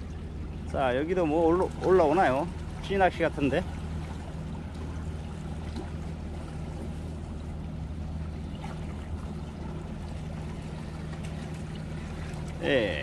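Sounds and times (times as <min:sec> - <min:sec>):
seawater washing among rocks: 0:00.0 - 0:13.0
steady low hum: 0:00.0 - 0:13.0.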